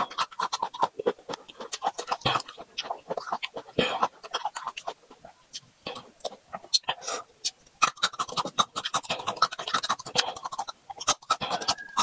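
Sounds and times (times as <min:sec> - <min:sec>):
crisp chewing crunches: 0:00.0 - 0:12.0
wet mouth clicks and smacks: 0:00.0 - 0:12.0.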